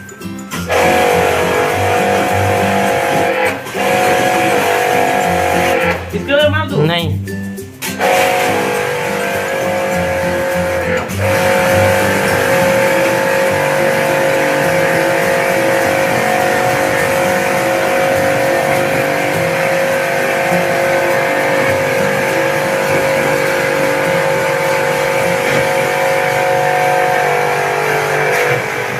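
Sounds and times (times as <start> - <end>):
machine humming with hiss: 0.7 - 6.1, 8.0 - 28.9.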